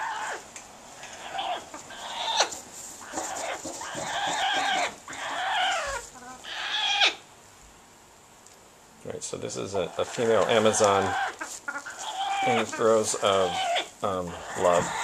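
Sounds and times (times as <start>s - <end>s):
parrot calling: 0.0s - 7.2s, 9.9s - 15.0s.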